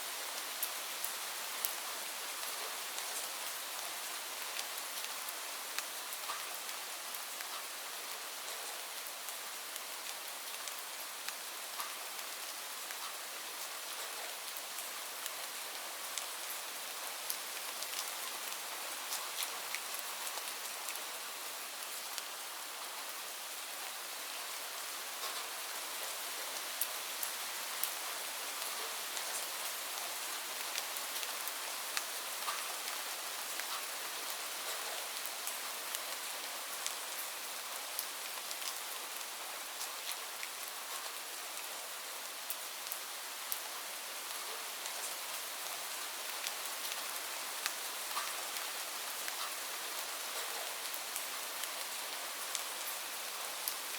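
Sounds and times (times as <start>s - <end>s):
steady rain hiss: 0.0s - 53.9s
raindrops ticking on a surface: 0.2s - 23.6s, 24.3s - 53.9s.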